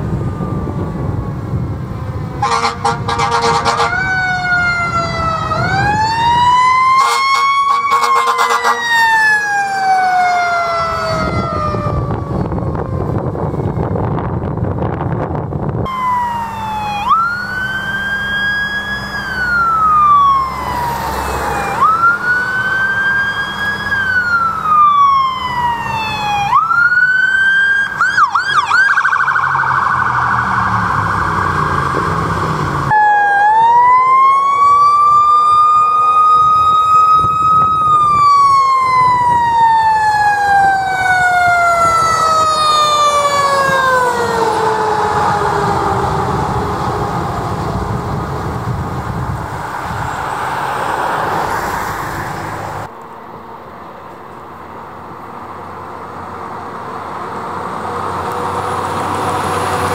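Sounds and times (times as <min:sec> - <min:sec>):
siren long wail: 0:00.0 - 0:53.0
emergency sirens wailing: 0:00.0 - 0:53.1, 0:54.5 - 0:59.9.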